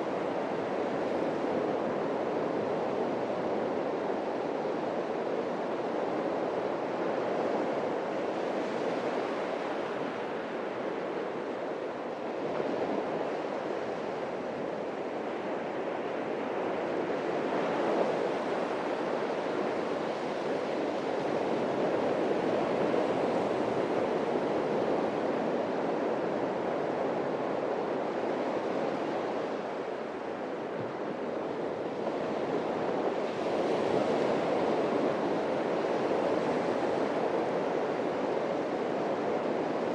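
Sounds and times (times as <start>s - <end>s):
surf waves breaking on beach: 0.0s - 39.9s.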